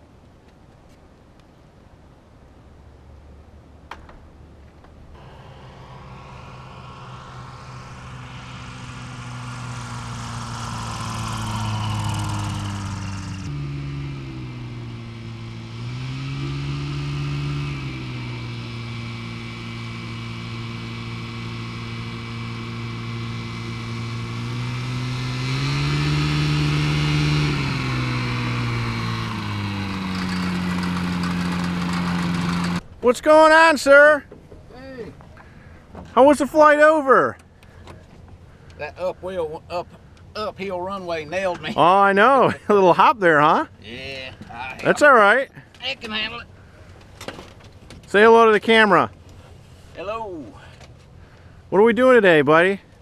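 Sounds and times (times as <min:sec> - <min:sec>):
ultralight aircraft engine and propeller: 0:04.1 - 0:52.1.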